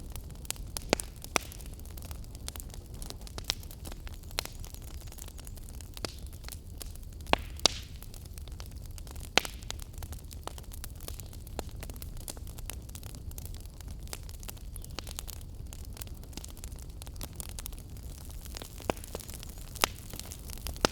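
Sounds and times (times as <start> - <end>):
sharp pops of fire: 0.0 - 12.5, 13.4 - 20.9
fire crackling in fireplace: 0.0 - 20.9
low fire rumble: 0.0 - 20.9.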